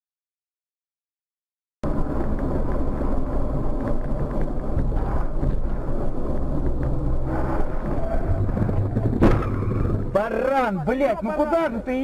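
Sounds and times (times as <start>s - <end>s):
car engine and road noise: 1.8s - 12.0s.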